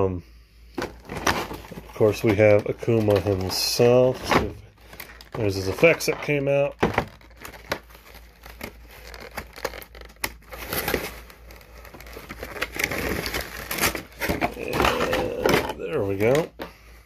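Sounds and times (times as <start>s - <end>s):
plastic packaging crinkling: 0.8s - 16.6s.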